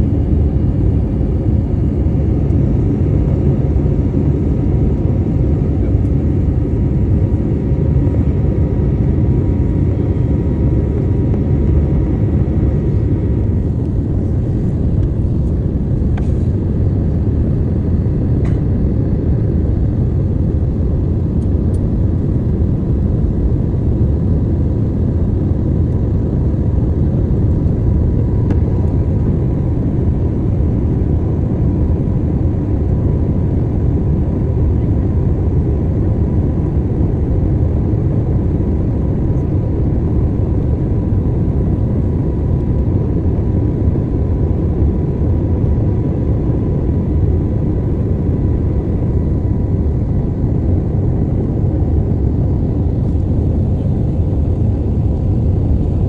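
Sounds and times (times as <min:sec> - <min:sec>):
airliner cabin low rumble: 0:00.0 - 0:56.0.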